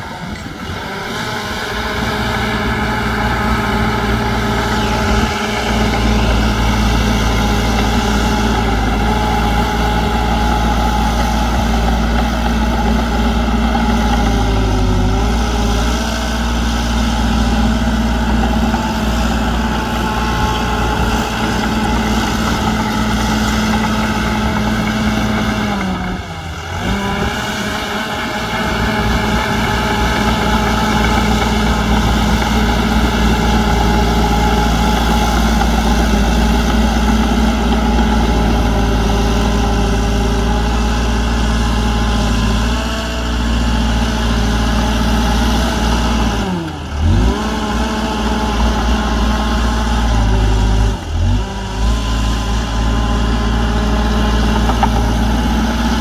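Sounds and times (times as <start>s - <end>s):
diesel engine running loudly: 0.0s - 56.0s.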